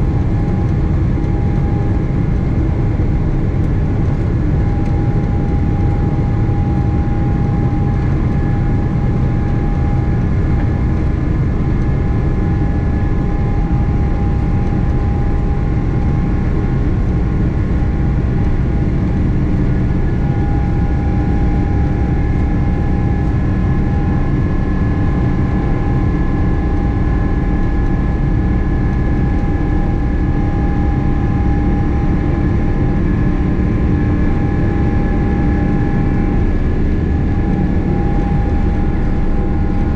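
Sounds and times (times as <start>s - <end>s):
jet engine and airflow rumble: 0.0s - 39.9s
steady whining tones: 0.0s - 39.9s.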